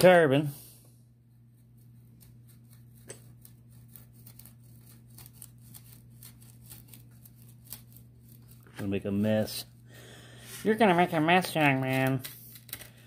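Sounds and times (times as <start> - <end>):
knife shaving wood: 1.3 - 13.0.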